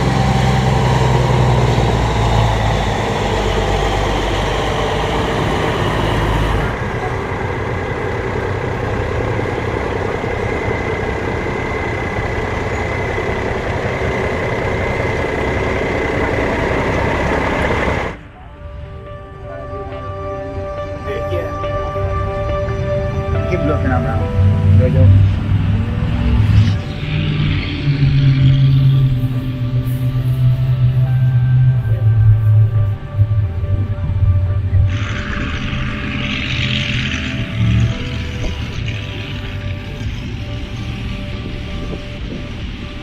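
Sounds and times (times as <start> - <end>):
truck engine running: 0.0 - 19.4, 20.1 - 43.0.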